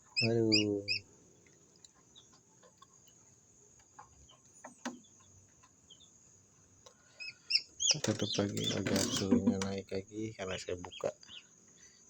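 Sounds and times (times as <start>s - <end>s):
chicks peeping: 0.0s - 1.0s, 1.9s - 9.8s, 10.5s - 11.6s.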